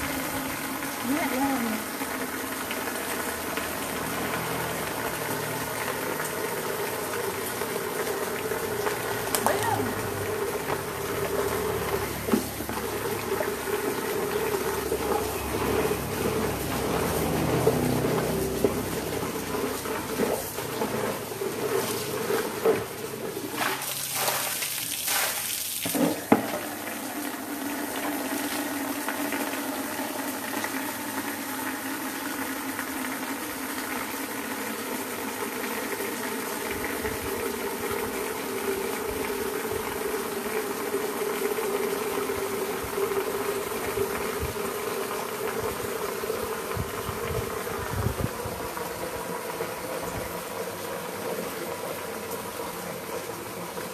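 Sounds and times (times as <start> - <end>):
water splashing and pouring: 0.0 - 53.9.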